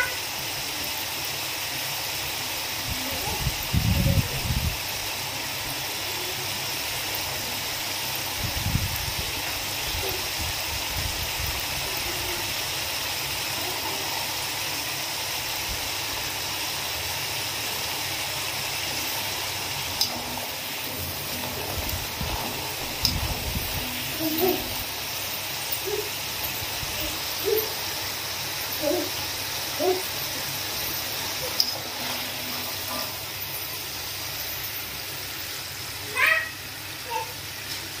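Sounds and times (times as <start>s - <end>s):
potato sticks sizzling in oil: 0.0s - 38.0s.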